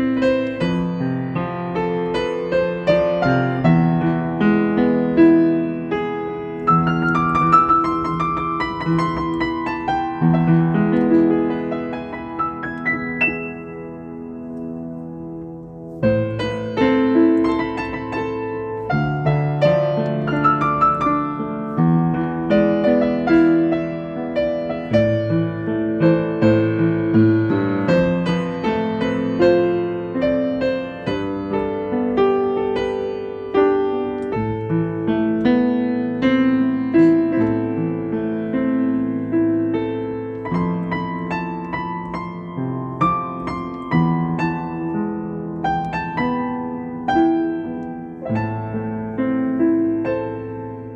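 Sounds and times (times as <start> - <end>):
slow gentle piano piece: 0.0 - 50.9.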